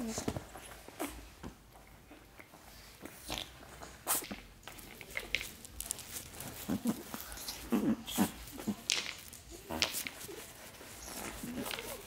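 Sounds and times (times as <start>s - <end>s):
puppy chewing plastic toy: 1.8s - 12.0s.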